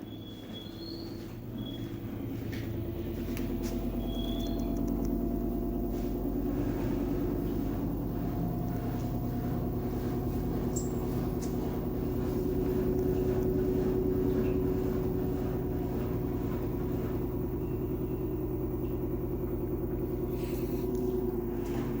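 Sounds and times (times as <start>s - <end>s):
washing machine drum spinning: 0.0s - 22.0s.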